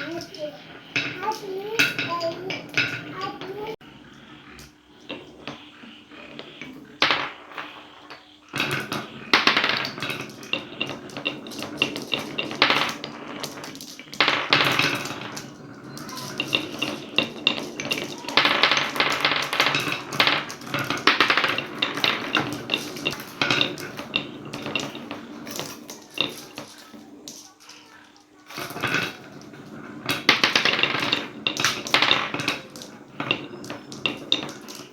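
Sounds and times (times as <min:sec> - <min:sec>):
marbles clattering down wooden track: 0:00.0 - 0:34.9.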